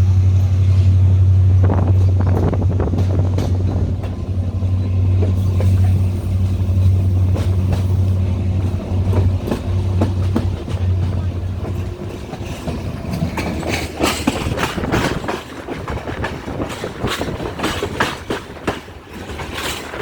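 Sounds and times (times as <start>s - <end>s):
train engine drone: 0.0s - 20.0s
wheels clicking on track: 1.6s - 20.0s.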